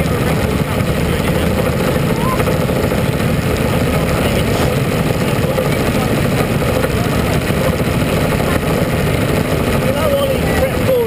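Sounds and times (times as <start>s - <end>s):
race car engines idling: 0.0s - 11.0s.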